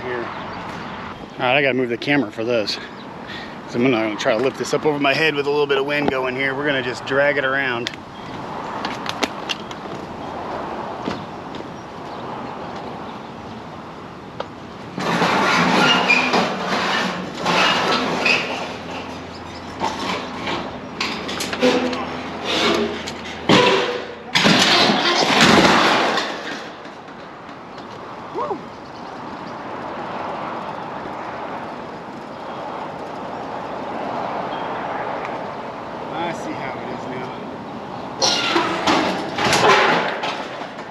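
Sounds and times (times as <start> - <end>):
strong wind: 0.0 - 40.7.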